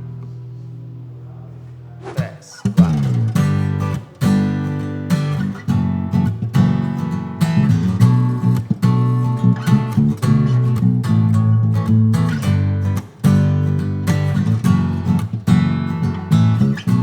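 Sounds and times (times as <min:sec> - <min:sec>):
plucked acoustic bass guitar: 0:02.0 - 0:17.0
strummed guitar chords: 0:02.2 - 0:17.0.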